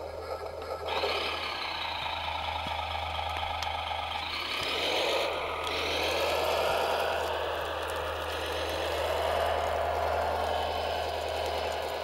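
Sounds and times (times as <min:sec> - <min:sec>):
model motors whining: 0:00.0 - 0:12.0
tracks clattering: 0:00.0 - 0:12.0.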